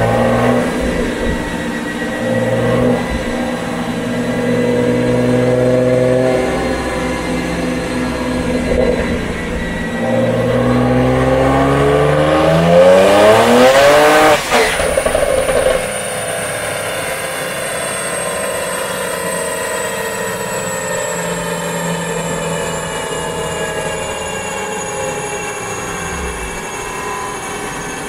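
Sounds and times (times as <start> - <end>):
car engine revving: 0.0 - 17.6, 20.3 - 28.0
high whine of drivetrain: 0.0 - 28.0.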